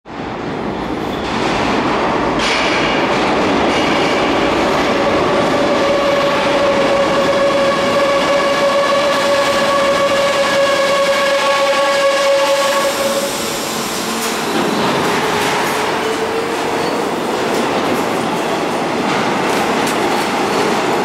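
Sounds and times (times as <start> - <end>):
train rumbling: 0.1 - 21.0.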